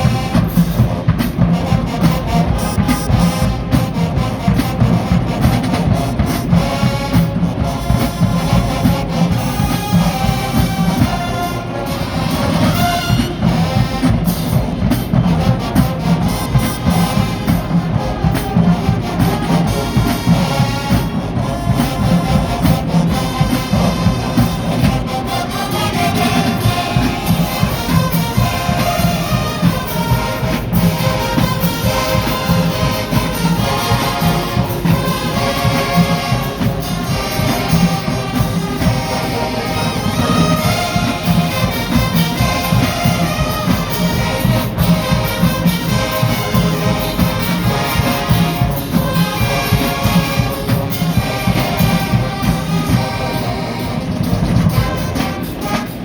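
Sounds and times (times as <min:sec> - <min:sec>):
brass horns: 0:00.0 - 0:56.0
pounding drum line: 0:00.0 - 0:56.0.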